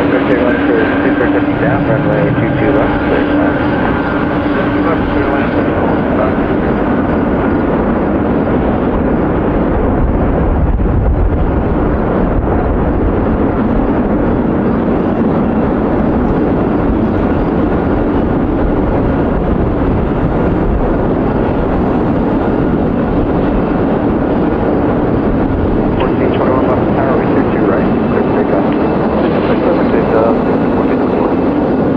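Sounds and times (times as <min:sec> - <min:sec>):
jet engines roaring: 0:00.0 - 0:31.9.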